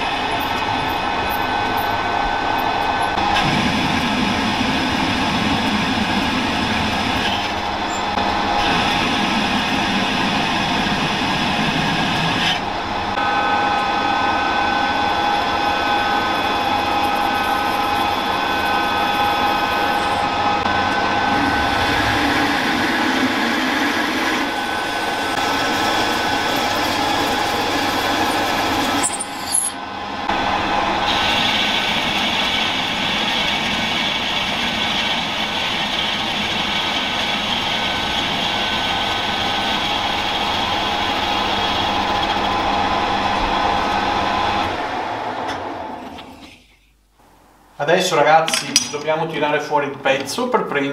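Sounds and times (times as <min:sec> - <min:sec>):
drilling and boring steel: 0:00.0 - 0:44.8
metal lathe gear whine: 0:00.0 - 0:46.6.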